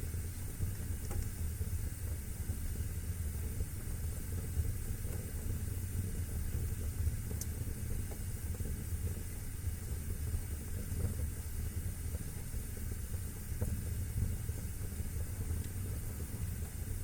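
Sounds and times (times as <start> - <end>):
fire crackles: 0.0 - 17.0
fire rumbling and hissing: 0.0 - 17.0.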